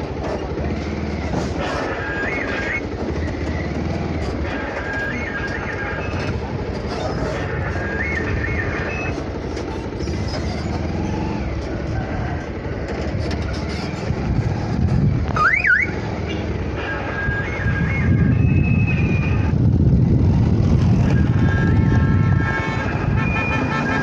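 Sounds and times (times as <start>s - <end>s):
motorcycle engine rumble: 0.0s - 24.0s.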